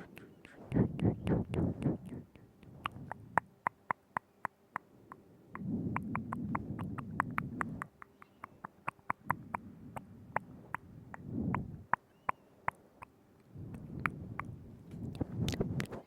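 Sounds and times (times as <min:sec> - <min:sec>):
tongue clicks and lip smacks: 0:00.0 - 0:16.0.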